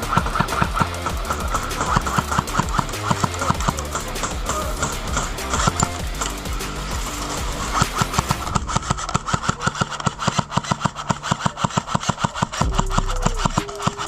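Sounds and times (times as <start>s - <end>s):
fast-beat background music: 0.0s - 14.0s.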